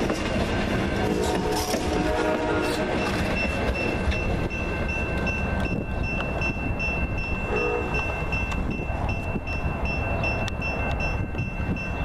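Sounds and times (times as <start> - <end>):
clickety-clack of train wheels: 0.0 - 12.0
crossing warning bell ringing: 0.0 - 12.0
train rumbling past: 0.0 - 12.0.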